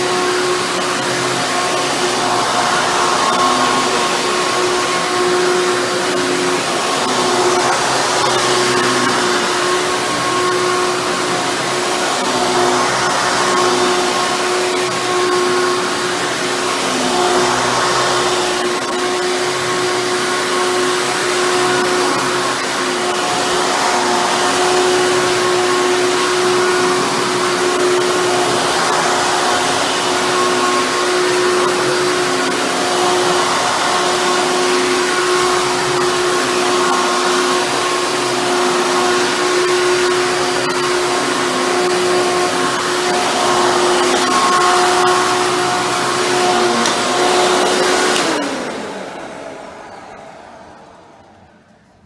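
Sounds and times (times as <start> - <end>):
vacuum cleaner running: 0.0 - 52.0
vacuum motor winding down: 0.0 - 52.0.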